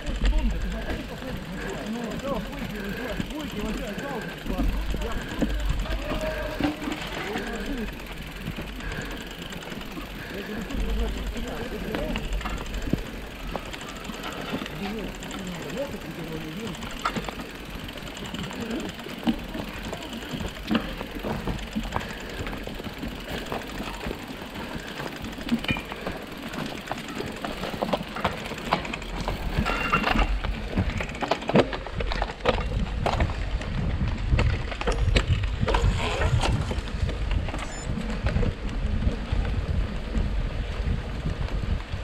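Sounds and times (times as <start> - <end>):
tyres on gravel: 0.0 - 40.2
bike rattling and knocking: 0.0 - 42.0.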